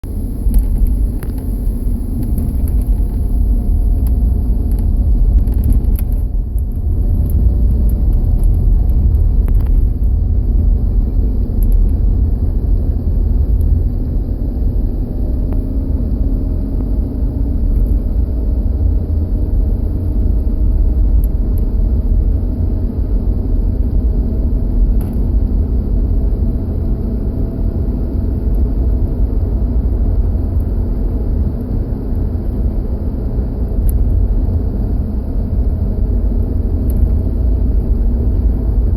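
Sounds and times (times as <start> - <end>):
car engine rumble: 0.0 - 38.9
faint whine drifting in pitch: 0.0 - 38.9.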